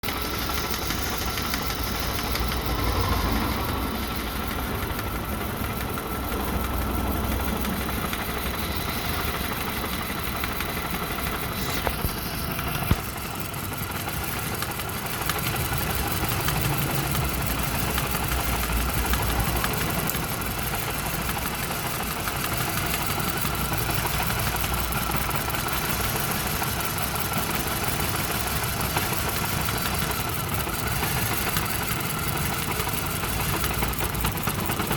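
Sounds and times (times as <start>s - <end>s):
engine idling unevenly: 0.0s - 34.9s.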